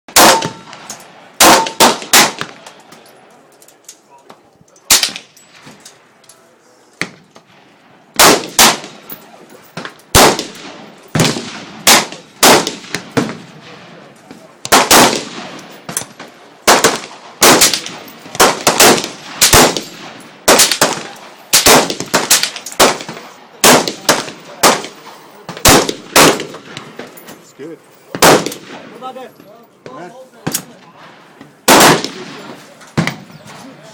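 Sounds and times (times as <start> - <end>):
rifle shots with echo: 0.1 - 2.8, 4.9 - 5.6, 7.0 - 27.2, 28.1 - 29.2, 30.4 - 33.4.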